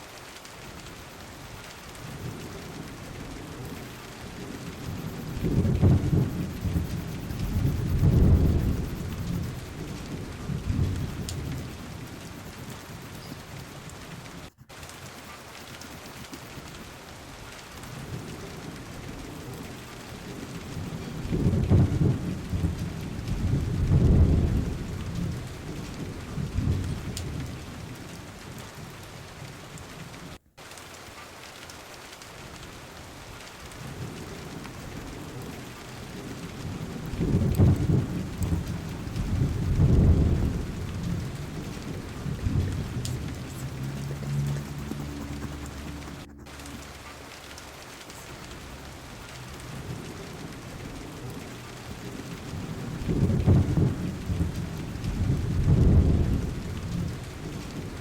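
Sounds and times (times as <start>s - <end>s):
steady rain: 0.0s - 58.0s
low thunder rolling: 0.7s - 14.8s, 15.6s - 30.4s, 32.4s - 58.0s.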